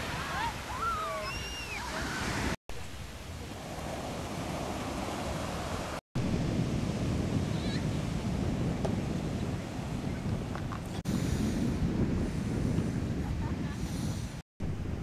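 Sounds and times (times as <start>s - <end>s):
ocean surf washing: 0.0s - 15.0s
wind on microphone: 0.0s - 15.0s.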